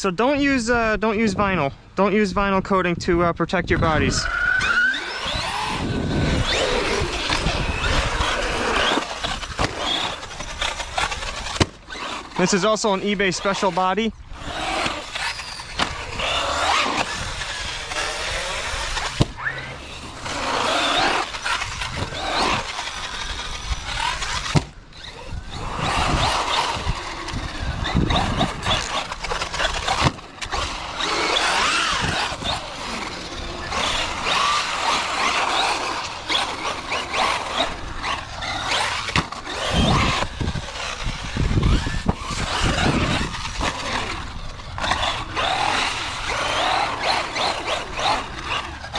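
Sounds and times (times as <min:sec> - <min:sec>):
tyre noise: 0:03.7 - 0:48.9
electric motor whining: 0:03.8 - 0:48.9
toy truck thumping ground: 0:04.5 - 0:12.4, 0:14.3 - 0:48.9.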